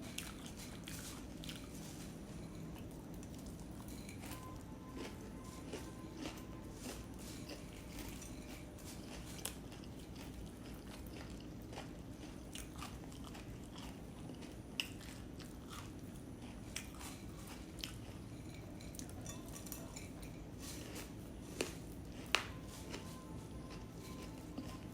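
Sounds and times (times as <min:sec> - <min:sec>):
chewing crunchy puffed rice: 0:00.0 - 0:24.9
steady low hum: 0:00.0 - 0:24.9.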